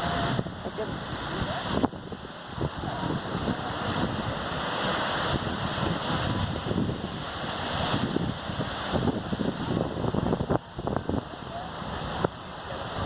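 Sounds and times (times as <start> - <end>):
ocean surf on beach: 0.0 - 13.0
wind buffeting microphone: 0.0 - 13.0.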